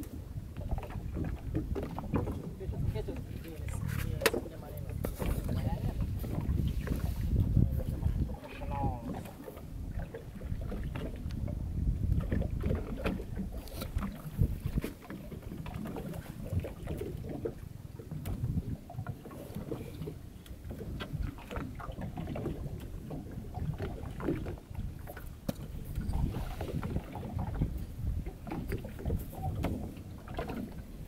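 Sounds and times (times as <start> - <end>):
water around boat: 0.0 - 31.0
wind on microphone: 0.0 - 31.0.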